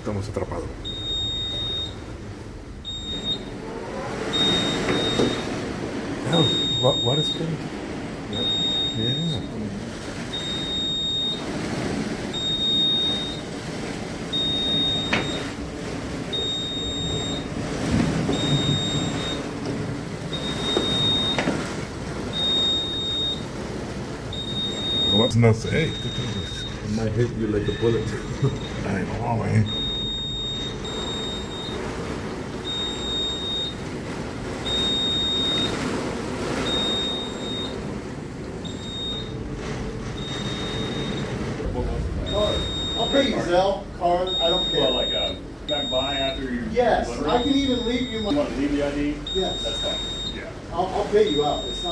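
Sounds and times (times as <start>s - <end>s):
low rumbling background noise: 0.0s - 51.9s
electronic alarm beeping: 0.8s - 2.1s, 2.8s - 3.6s, 4.3s - 5.6s, 6.3s - 7.6s, 8.3s - 9.6s, 10.3s - 11.5s, 12.3s - 13.6s, 14.3s - 15.6s, 16.3s - 17.6s, 18.2s - 19.6s, 20.2s - 23.6s, 24.3s - 33.9s, 34.6s - 38.0s, 38.6s - 51.9s.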